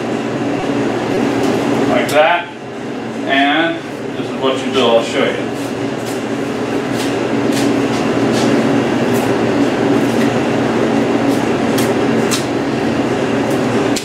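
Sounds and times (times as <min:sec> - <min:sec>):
refrigeration unit humming: 0:00.0 - 0:14.0.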